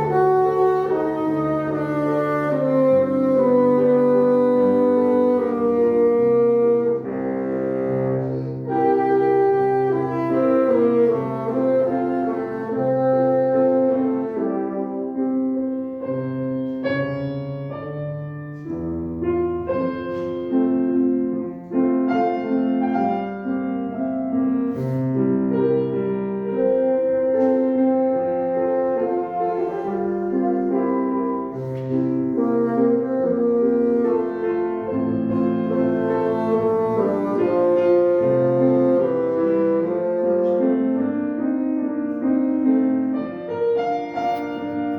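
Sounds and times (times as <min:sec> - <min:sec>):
bassoon melody: 0:00.0 - 0:44.9
piano accompaniment: 0:00.0 - 0:44.9.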